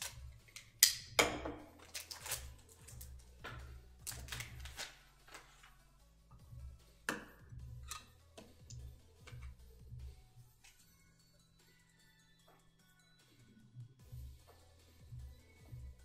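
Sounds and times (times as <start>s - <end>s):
background music with low beat: 0.0s - 16.0s.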